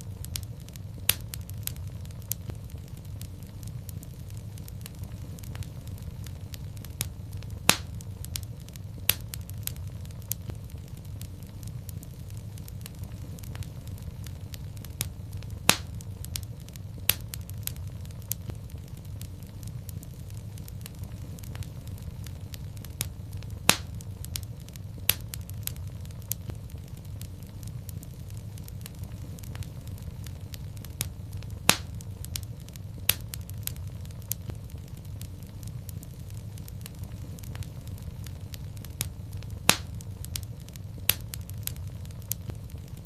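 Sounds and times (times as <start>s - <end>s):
wood fire crackling in fireplace: 0.0s - 43.0s.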